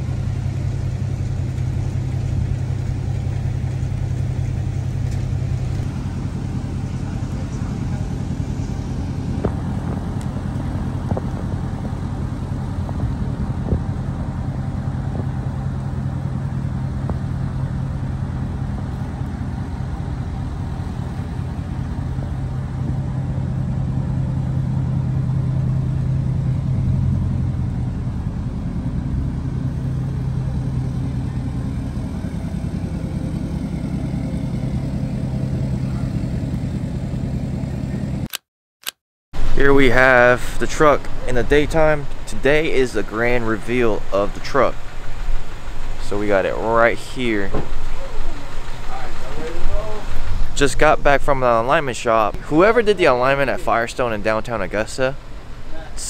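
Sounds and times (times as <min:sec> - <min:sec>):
pickup truck engine running: 0:00.0 - 0:38.3, 0:39.4 - 0:56.0.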